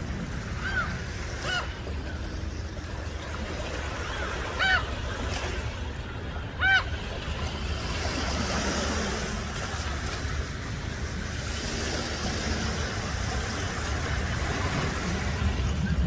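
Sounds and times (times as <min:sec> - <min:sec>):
low seaside rumble: 0:00.0 - 0:16.0.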